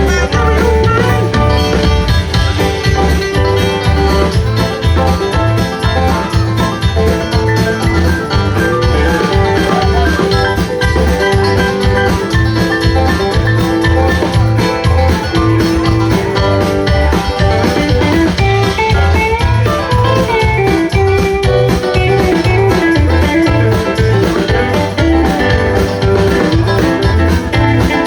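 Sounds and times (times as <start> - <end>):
plucked guitar lines: 0.0 - 28.0
steady bass beat: 0.0 - 28.0.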